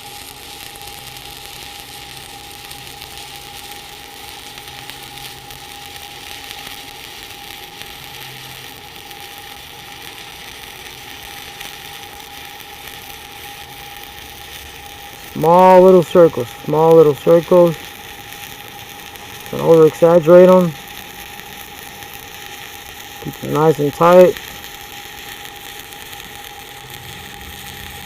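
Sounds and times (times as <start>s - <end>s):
faint steady whine: 0.0s - 28.0s
welding arc sizzling: 0.0s - 28.0s.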